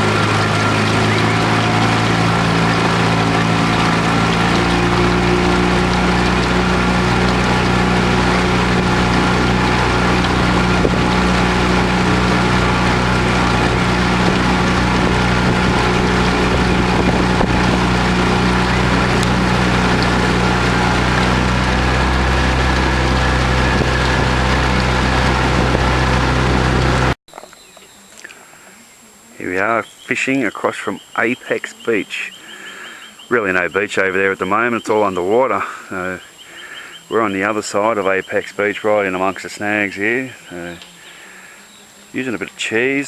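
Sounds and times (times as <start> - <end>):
outboard motor running: 0.0 - 43.0.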